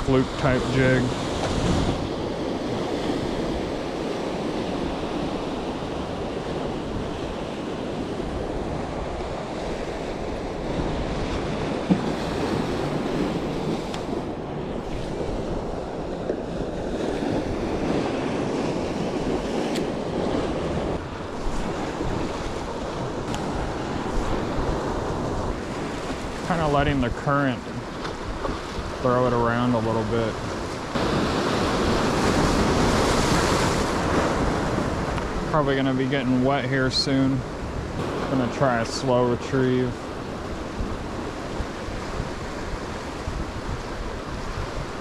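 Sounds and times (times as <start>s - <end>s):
surf washing against rocks: 0.0s - 45.0s
wind buffeting microphone: 0.0s - 45.0s.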